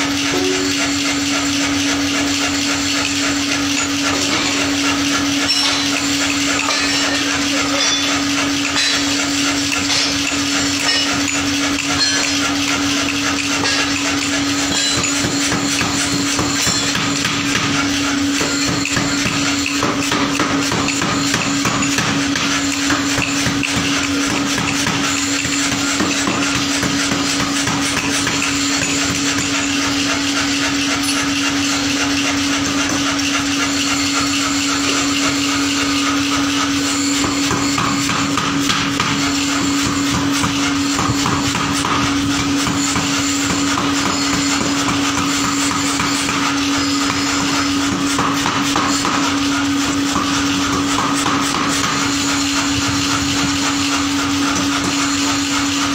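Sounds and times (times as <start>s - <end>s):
metal hammer blows: 0.0s - 55.9s
steady machine hum: 0.0s - 55.9s.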